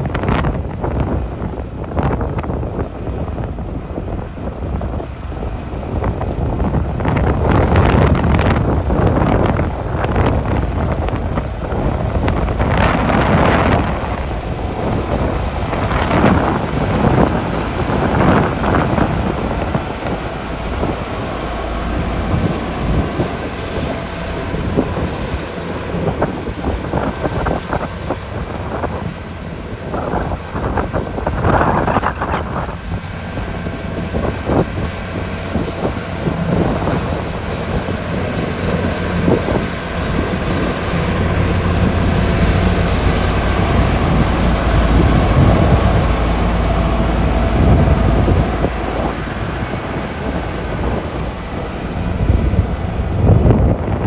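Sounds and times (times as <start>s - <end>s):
diesel engine under load: 0.0s - 54.0s
wind buffeting microphone: 0.0s - 54.0s
bulldozer tracks clattering and scraping: 5.0s - 54.0s.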